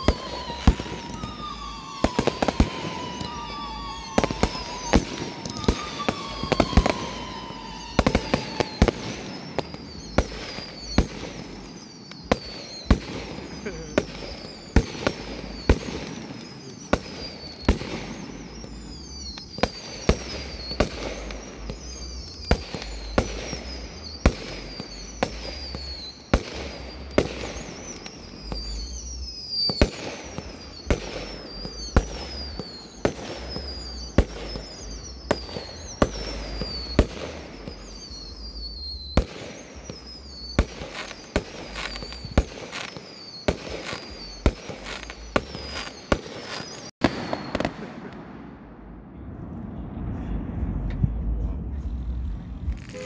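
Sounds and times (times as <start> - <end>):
descending firework whistle: 0.0 - 53.0
fireworks bangs: 0.0 - 53.0.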